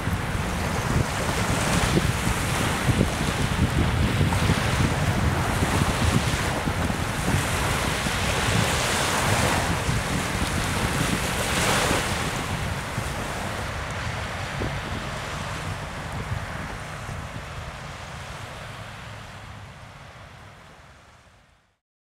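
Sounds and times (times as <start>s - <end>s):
wind on microphone: 0.0s - 20.9s
choppy water washing: 0.0s - 21.2s.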